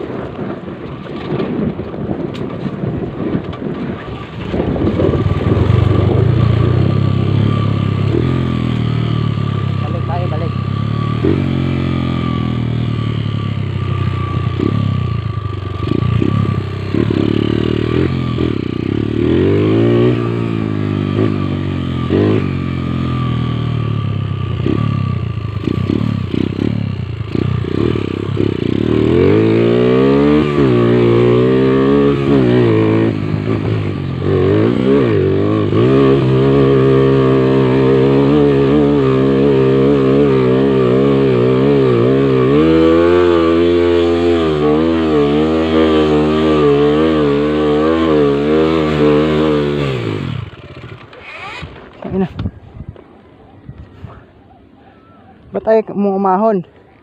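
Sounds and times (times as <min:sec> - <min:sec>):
motorcycle engine revving: 0:00.0 - 0:54.2.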